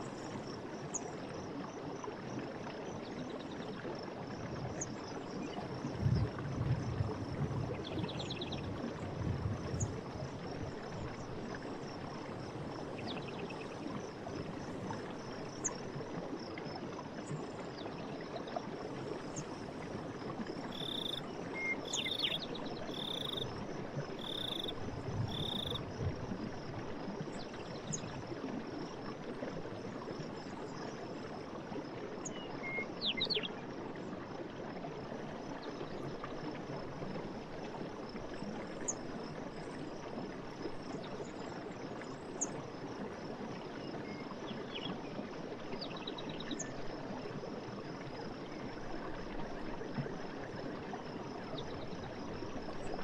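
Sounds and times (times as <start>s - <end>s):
forest stream running: 0.0s - 53.0s.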